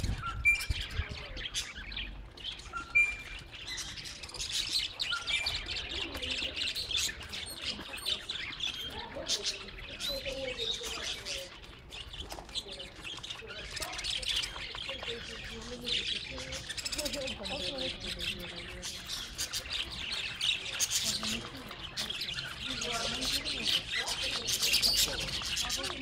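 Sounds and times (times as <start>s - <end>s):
lower wavering bird calls: 0.0s - 26.0s
small birds chirping: 0.0s - 26.0s.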